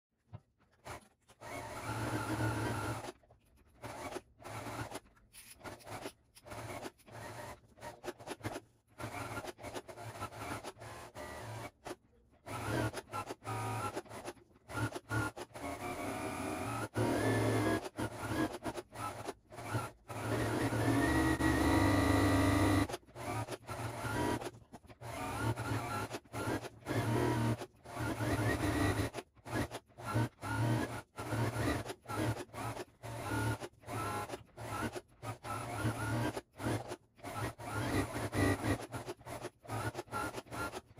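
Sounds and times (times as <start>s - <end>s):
sewing machine stitching: 0.7s - 40.9s.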